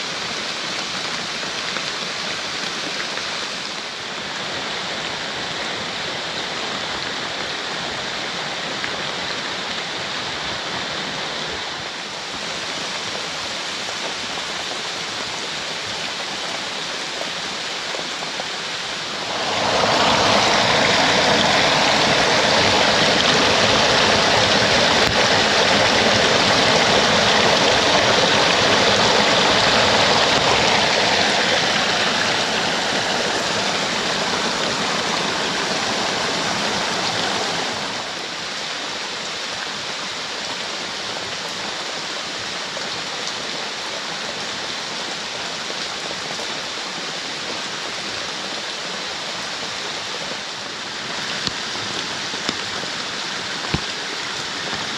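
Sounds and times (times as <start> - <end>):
fast stream rushing: 0.0 - 54.9.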